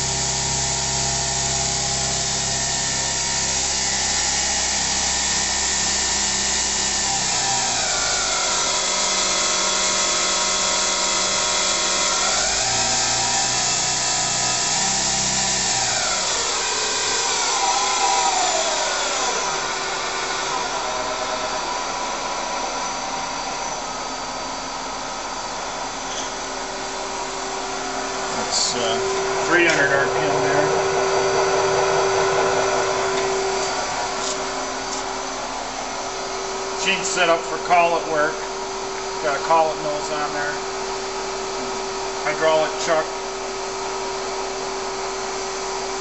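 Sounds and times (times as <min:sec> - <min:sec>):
lathe spindle whine: 0:00.0 - 0:46.0.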